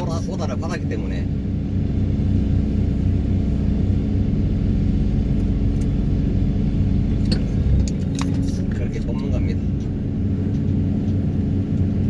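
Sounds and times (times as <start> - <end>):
excavator engine drone: 0.0 - 12.0.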